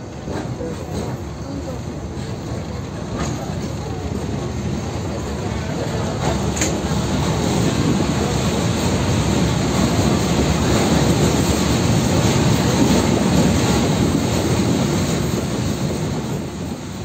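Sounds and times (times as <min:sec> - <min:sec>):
train engine and wheels rumbling: 0:00.0 - 0:17.0.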